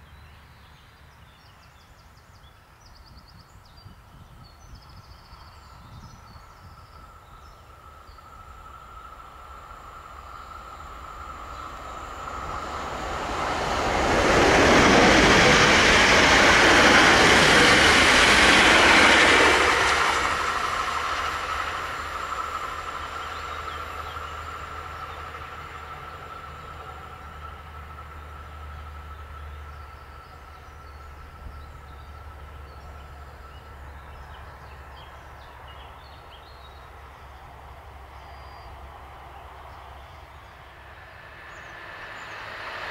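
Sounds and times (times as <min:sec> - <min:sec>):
electric train passing: 0:05.2 - 0:42.9.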